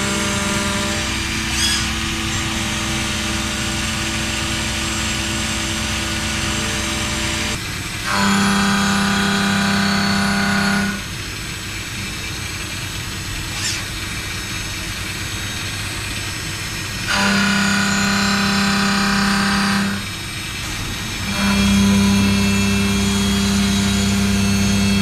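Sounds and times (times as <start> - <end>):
dull machine noise: 0.0 - 25.0
machine cutting humming tone: 0.0 - 25.0.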